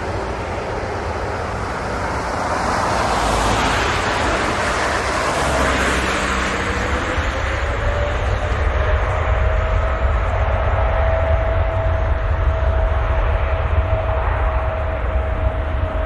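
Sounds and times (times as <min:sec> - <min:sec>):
engine whine rising in pitch: 0:00.0 - 0:16.0
jet engines roaring: 0:00.0 - 0:16.0.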